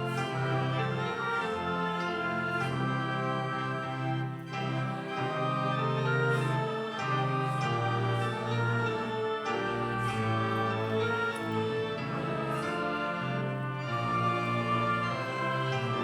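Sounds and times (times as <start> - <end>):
church organ playing a hymn: 0.0 - 16.0.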